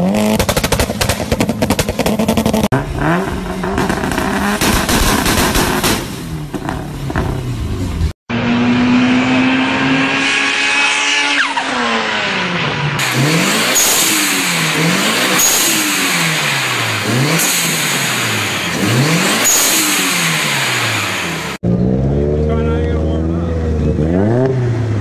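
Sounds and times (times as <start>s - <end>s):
turbo engine revving: 0.0s - 25.0s.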